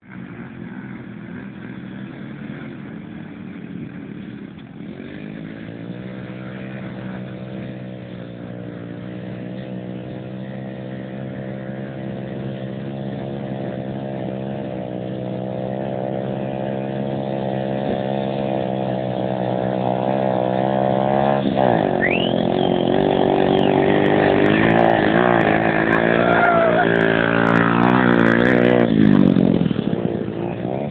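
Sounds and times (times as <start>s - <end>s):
pit bike engine running: 0.0s - 30.9s.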